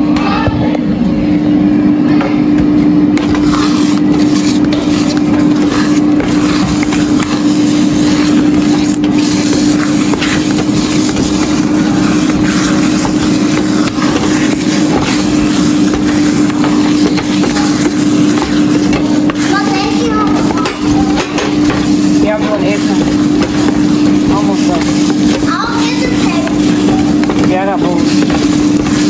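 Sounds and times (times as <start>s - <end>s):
loud machine hum: 0.0s - 29.0s
spatula scraping eggs in a pan: 3.2s - 29.0s.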